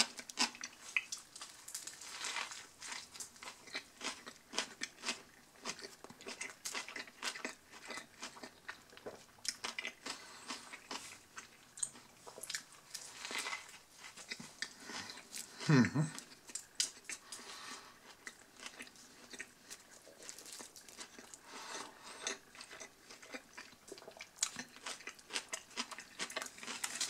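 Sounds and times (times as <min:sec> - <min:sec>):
close chewing sounds: 0:00.0 - 0:27.0.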